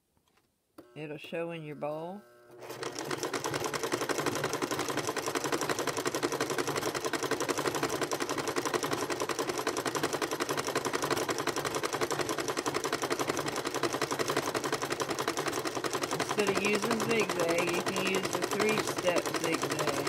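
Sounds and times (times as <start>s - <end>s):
sewing machine needle clatter: 2.6s - 20.0s.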